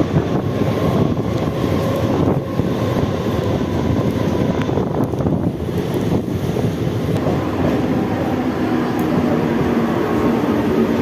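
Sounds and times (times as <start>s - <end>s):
train running at speed: 0.0s - 11.0s
wind buffeting microphone: 0.0s - 11.0s.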